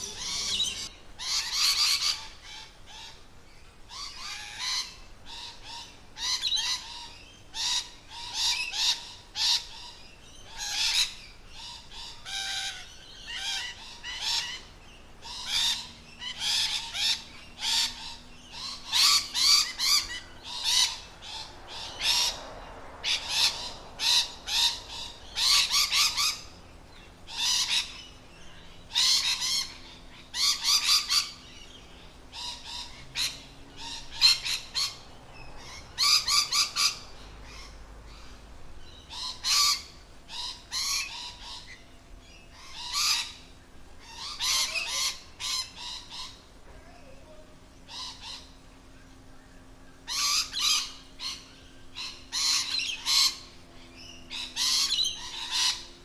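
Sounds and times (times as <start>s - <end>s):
lorikeets screeching: 0.0s - 56.0s.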